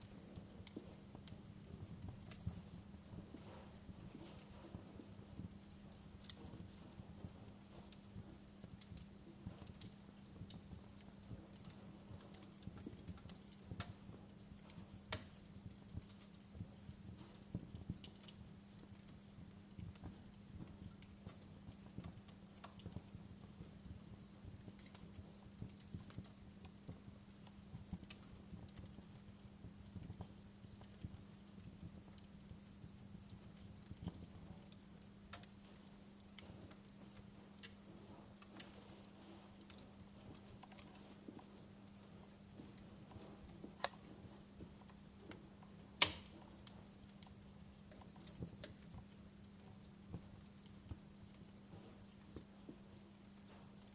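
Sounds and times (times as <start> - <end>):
faint low hum: 0.0 - 53.9
wood fire crackling: 0.0 - 53.9.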